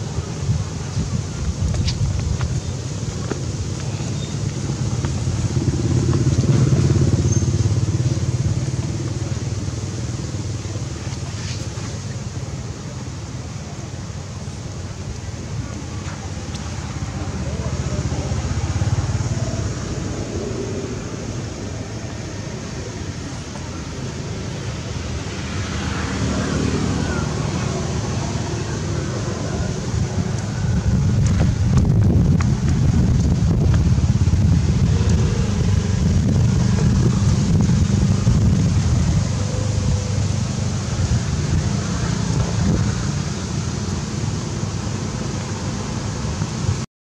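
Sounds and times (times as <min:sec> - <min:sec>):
low rumble and hiss: 0:00.0 - 0:46.8
passing vehicle engine: 0:00.0 - 0:46.8.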